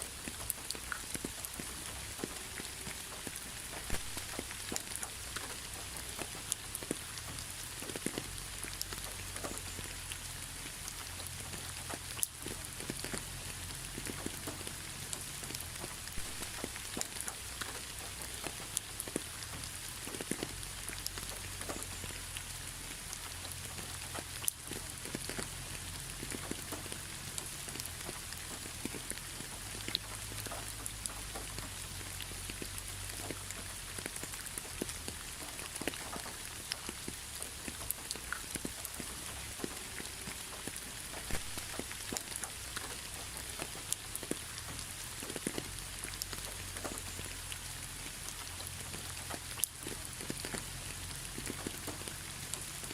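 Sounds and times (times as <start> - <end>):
raindrops ticking: 0.0 - 52.9
steady rain hiss: 0.0 - 52.9.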